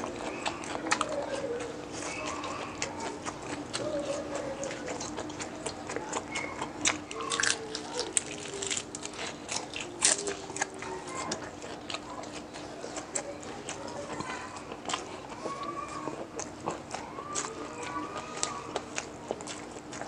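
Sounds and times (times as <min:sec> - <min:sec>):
crunching of crisp fried food: 0:00.0 - 0:20.0
wet chewing: 0:00.0 - 0:20.0.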